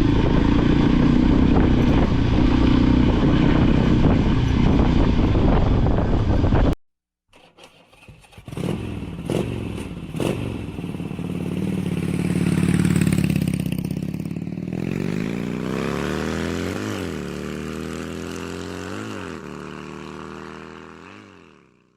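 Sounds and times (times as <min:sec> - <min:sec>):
motorcycle engine revving up: 0:00.0 - 0:06.8, 0:07.4 - 0:21.9.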